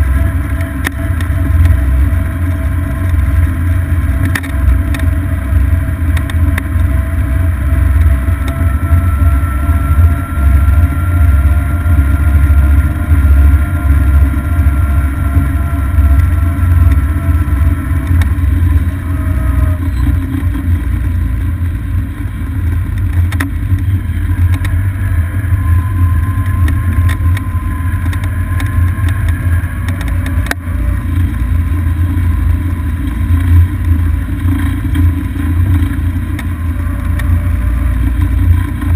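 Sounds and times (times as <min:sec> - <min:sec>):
faint whine: 0:00.0 - 0:38.9
golf cart low rumble: 0:00.0 - 0:38.9.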